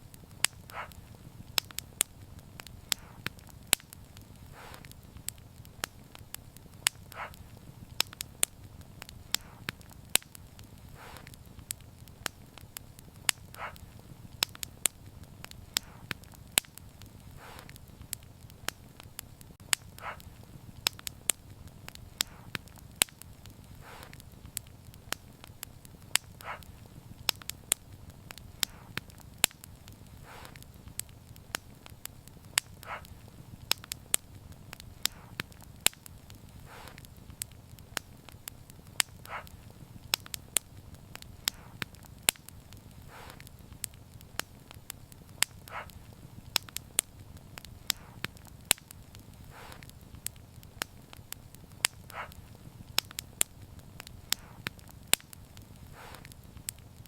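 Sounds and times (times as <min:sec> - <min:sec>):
fire hissing: 0:00.0 - 0:57.0
low rumble of flames: 0:00.0 - 0:57.0
wood fire crackling and popping: 0:00.0 - 0:57.0.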